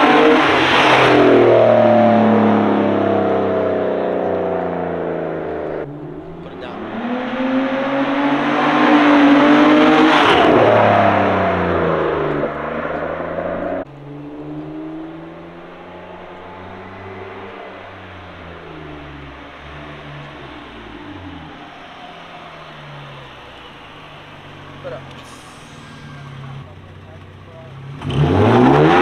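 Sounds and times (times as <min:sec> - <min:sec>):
car engine driving past: 0:00.0 - 0:29.0.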